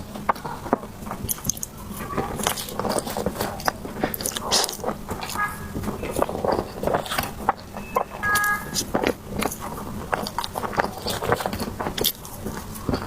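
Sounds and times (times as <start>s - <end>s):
chewing with mouth clicks: 0.1s - 13.0s.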